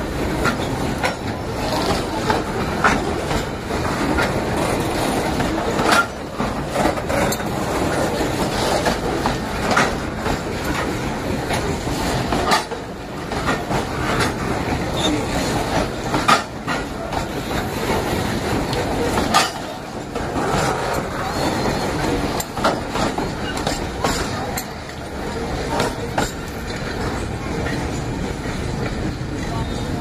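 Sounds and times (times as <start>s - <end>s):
steel wheels rumbling on rail: 0.0s - 30.0s
wheels clacking over rail joints: 0.0s - 30.0s.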